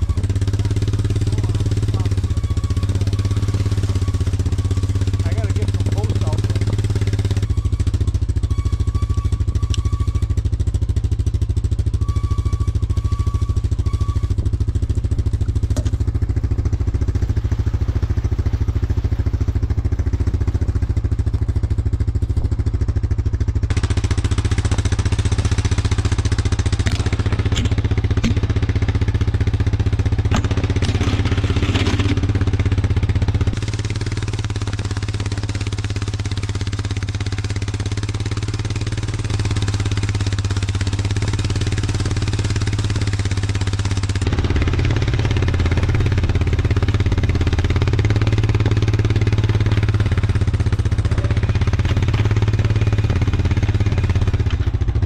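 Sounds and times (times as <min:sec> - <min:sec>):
atv engine idling: 0:00.0 - 0:55.0.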